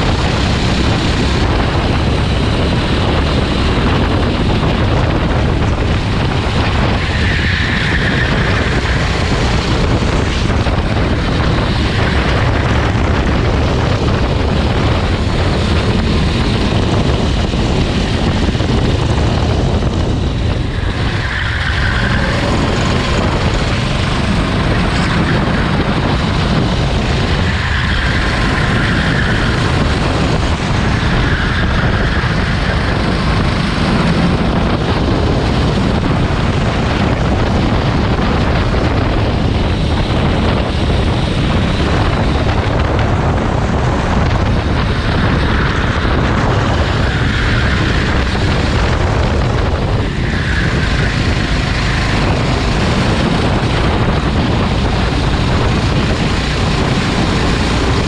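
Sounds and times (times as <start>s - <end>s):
go-kart engine racing: 0.0s - 58.0s
wind and road noise: 0.0s - 58.0s.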